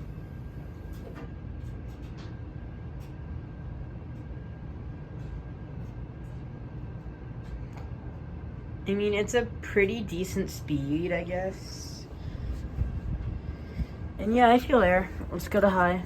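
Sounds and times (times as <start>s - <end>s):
ceiling fan hum and air rush: 0.0s - 16.0s.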